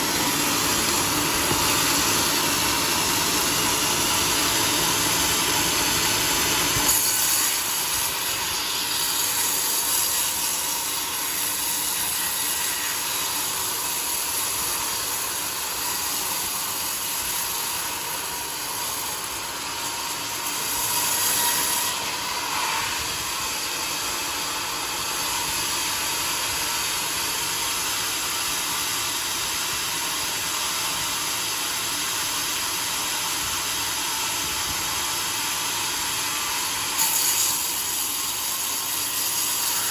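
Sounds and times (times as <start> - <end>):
saw blade cutting log: 0.0 - 39.9.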